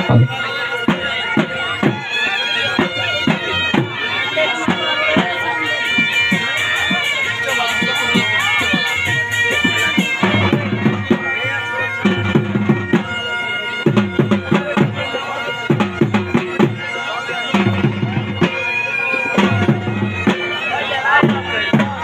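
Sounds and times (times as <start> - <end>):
repeated drum strokes: 0.0 - 22.0
wind instrument melody: 0.0 - 22.0.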